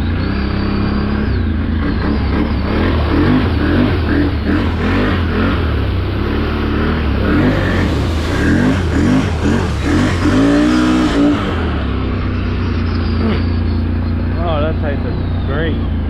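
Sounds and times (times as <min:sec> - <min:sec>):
vehicle engine revving: 0:00.0 - 0:16.0.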